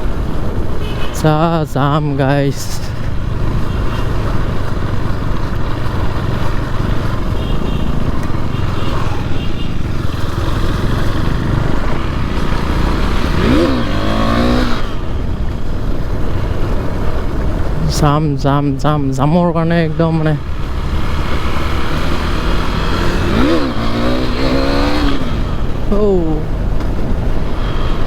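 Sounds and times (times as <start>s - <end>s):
wind and road noise: 0.0s - 28.0s
motorcycle engine running: 2.8s - 28.0s.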